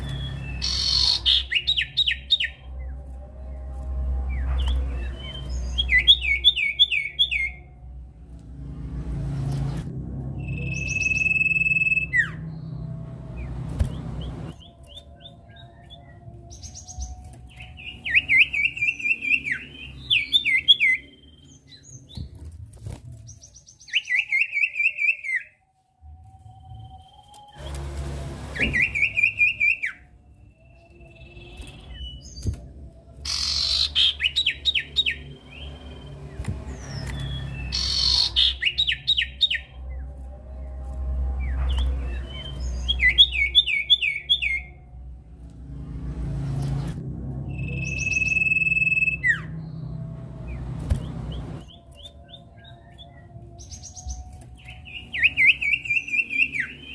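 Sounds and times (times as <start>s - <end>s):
bird singing high clipped notes: 0.0s - 7.7s, 9.1s - 25.5s, 26.4s - 56.9s.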